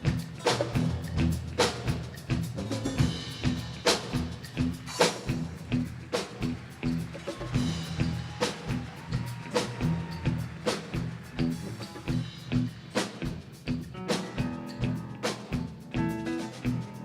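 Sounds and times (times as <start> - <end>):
bass and guitar: 0.0 - 17.0
drum kit steady beat: 0.0 - 17.0.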